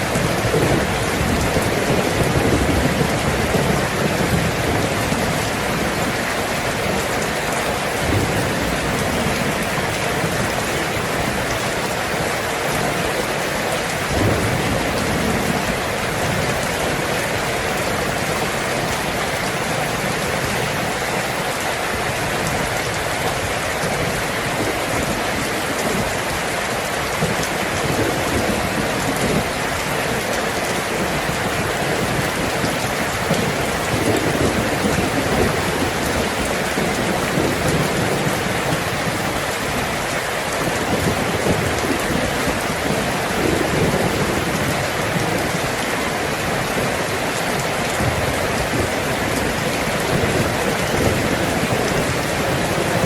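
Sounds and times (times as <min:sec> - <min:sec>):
low thunder rumbling: 0:00.0 - 0:21.0, 0:22.1 - 0:53.0
heavy rain on a tin roof: 0:00.0 - 0:53.0.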